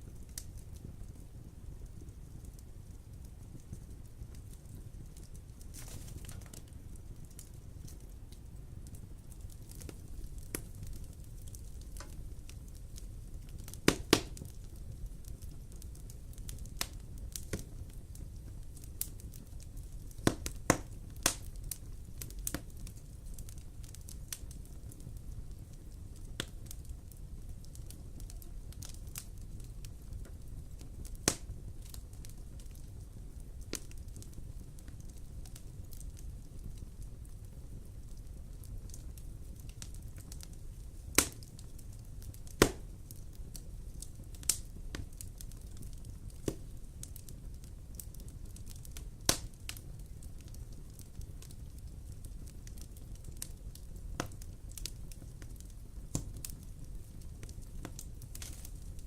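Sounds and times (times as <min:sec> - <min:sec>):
low rumble of flames: 0:00.0 - 0:59.0
sharp pops from fire: 0:00.0 - 0:59.0
wood fire crackling: 0:00.0 - 0:59.0.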